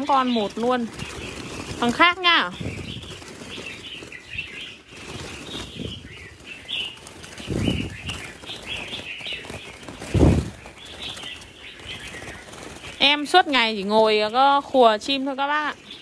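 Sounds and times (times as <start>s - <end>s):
birds flapping wings: 0.0s - 16.0s.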